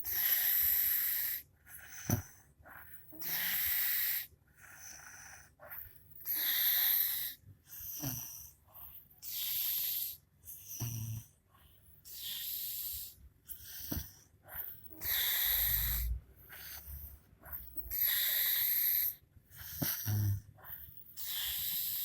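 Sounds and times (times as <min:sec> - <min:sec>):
woman snoring wheezy breath: 0:00.0 - 0:11.3, 0:12.1 - 0:22.0
low snort: 0:00.0 - 0:11.4, 0:12.1 - 0:22.0.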